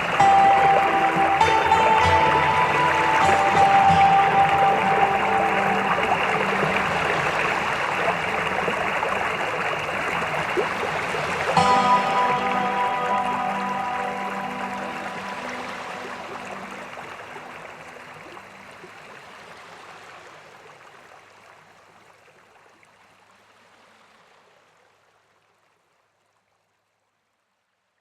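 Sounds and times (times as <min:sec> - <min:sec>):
stream flowing over rocks: 0:00.0 - 0:26.6.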